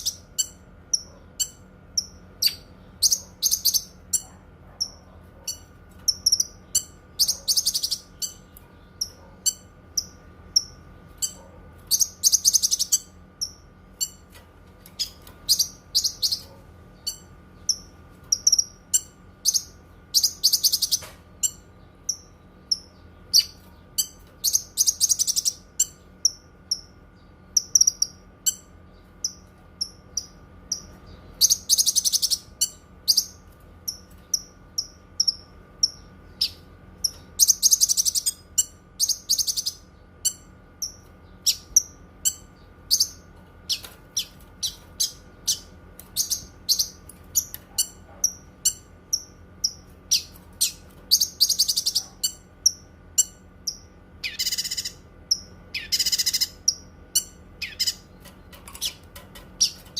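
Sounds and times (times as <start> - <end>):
bird chirping and trilling: 0.0 - 59.9
faint steady hum: 0.0 - 59.9.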